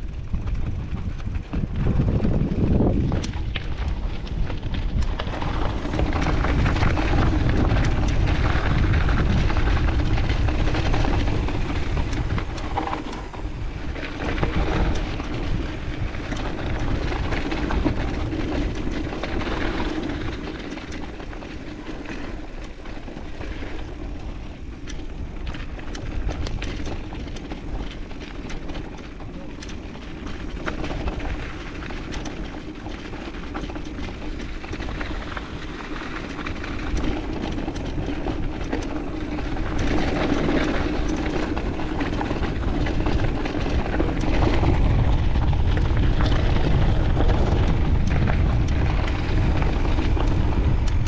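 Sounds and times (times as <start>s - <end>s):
bike rattling over bumps: 0.0s - 51.0s
bike tyres rolling over gravel: 0.0s - 51.0s
wind noise on microphone: 0.0s - 51.0s
small clicks and knocks: 2.8s - 51.0s.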